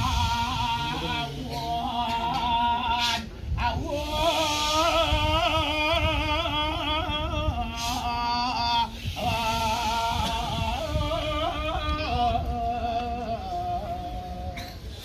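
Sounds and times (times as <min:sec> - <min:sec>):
low background rumble: 0:00.0 - 0:15.0
person singing with vibrato: 0:00.0 - 0:15.0.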